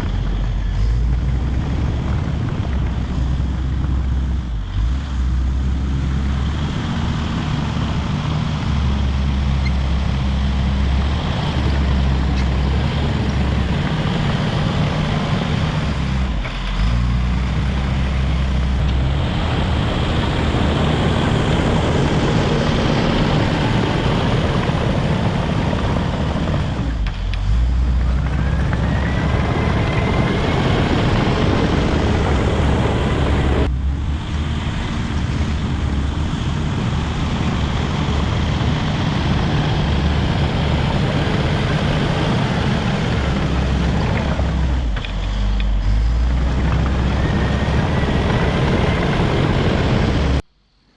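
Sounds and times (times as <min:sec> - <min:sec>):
bulldozer diesel engine droning: 0:00.0 - 0:50.9.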